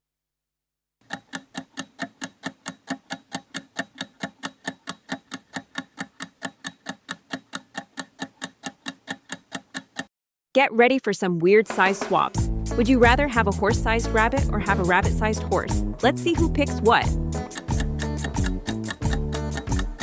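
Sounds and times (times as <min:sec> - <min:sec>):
clock-like ticking: 0:01.0 - 0:10.1, 0:11.7 - 0:20.0.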